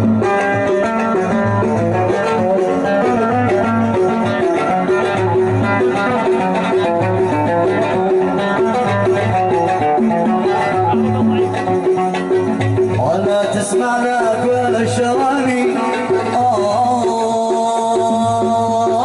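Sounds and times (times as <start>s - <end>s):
plucked string melody: 0.0s - 19.0s.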